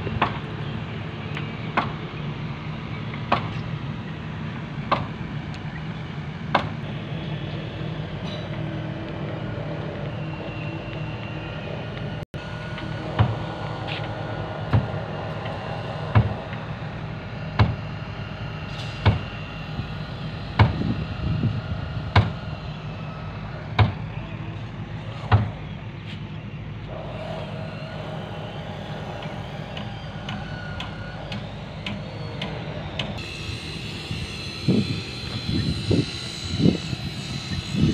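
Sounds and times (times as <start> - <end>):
construction machinery hum: 0.0 - 37.9.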